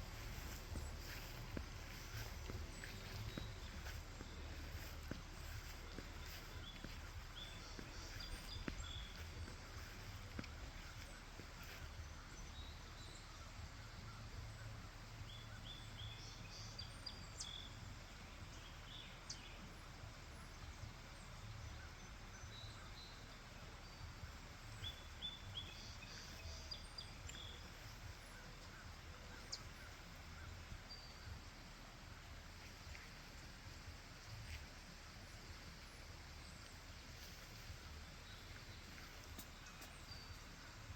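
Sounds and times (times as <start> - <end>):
low outdoor rumble: 0.0 - 40.9.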